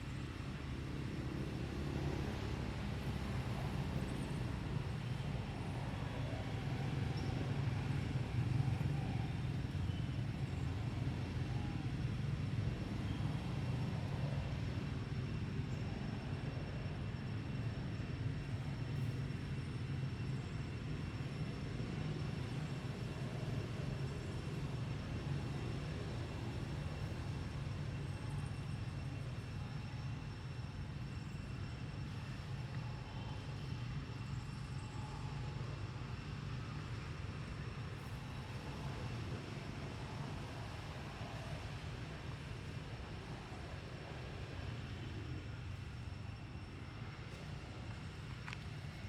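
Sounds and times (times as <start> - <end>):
faint high whine: 0.0 - 49.0.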